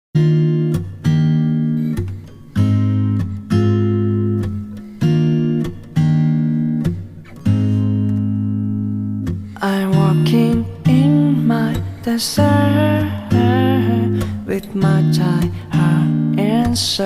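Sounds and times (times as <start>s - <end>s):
acoustic guitar strumming chords: 0.2s - 17.0s.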